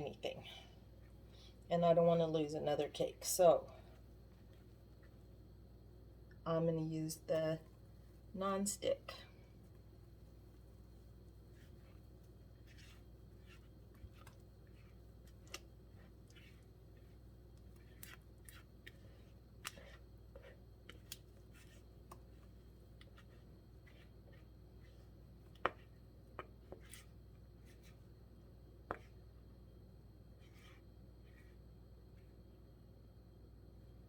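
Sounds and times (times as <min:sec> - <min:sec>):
low room hum: 0:00.0 - 0:34.0.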